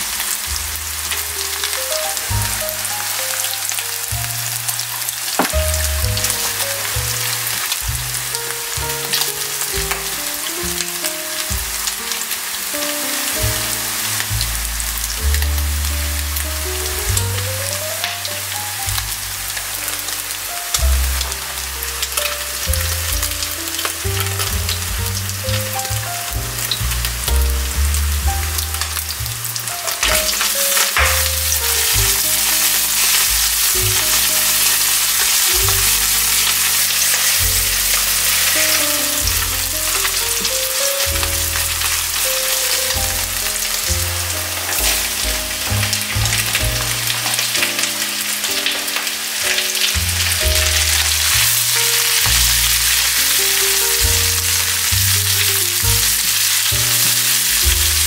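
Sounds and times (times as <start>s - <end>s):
meat sizzling in hot oil: 0.0s - 58.0s
background music: 0.2s - 58.0s.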